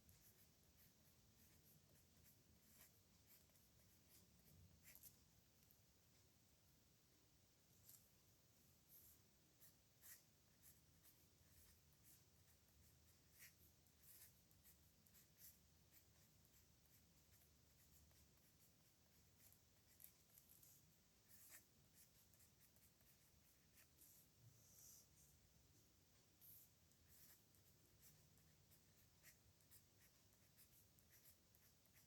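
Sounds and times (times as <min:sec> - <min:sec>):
pen nib scratching paper: 0:00.0 - 0:05.2, 0:08.9 - 0:25.1, 0:26.1 - 0:32.0.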